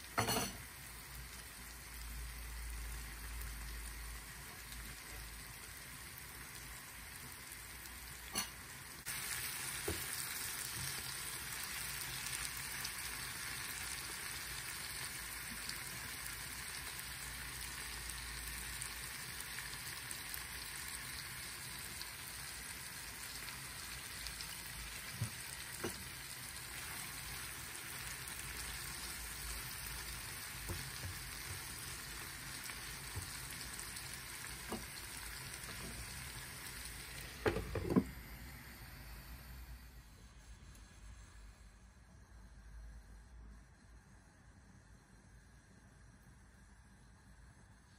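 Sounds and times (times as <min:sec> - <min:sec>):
vegetables sizzling in frying pan: 0:00.0 - 0:40.0.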